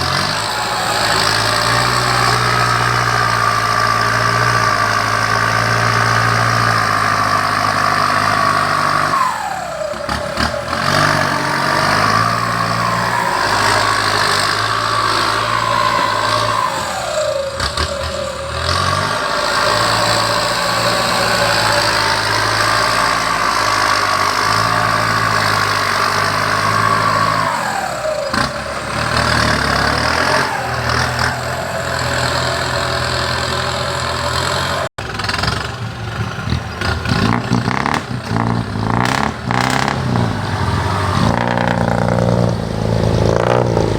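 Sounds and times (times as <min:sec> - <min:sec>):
heavy vehicle engine revving: 0:00.0 - 0:43.9.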